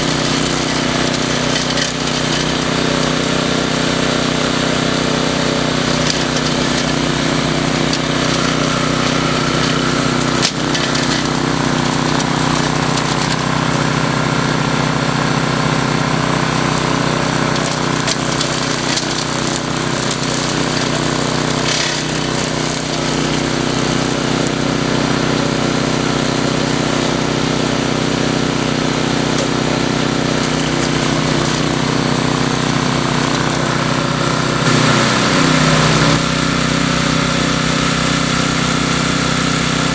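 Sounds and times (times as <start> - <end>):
brush mower engine running: 0.0 - 39.9.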